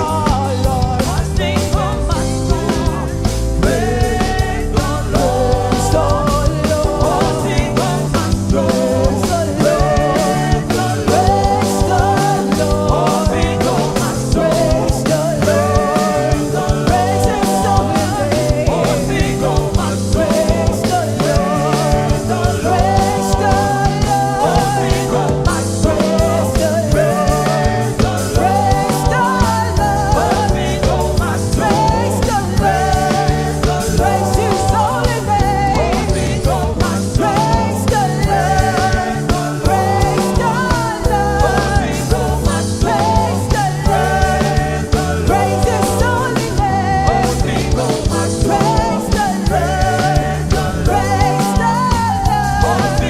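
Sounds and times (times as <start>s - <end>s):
person singing: 0.0s - 53.0s
worship band playing: 0.0s - 53.0s.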